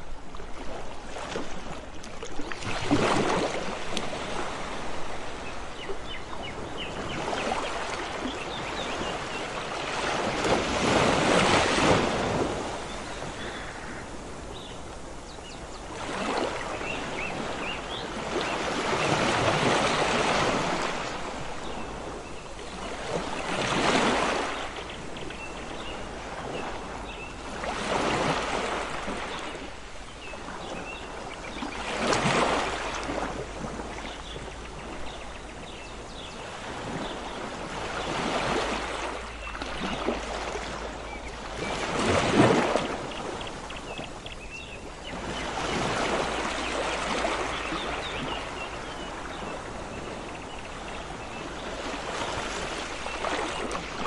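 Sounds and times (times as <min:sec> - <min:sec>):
sea waves breaking on beach: 0:00.0 - 0:54.0.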